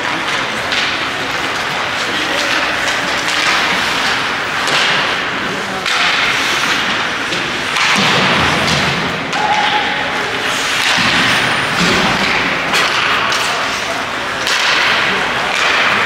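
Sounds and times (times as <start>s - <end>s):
hockey sticks and puck clacking: 0.0s - 16.0s
skates scraping ice: 0.0s - 16.0s.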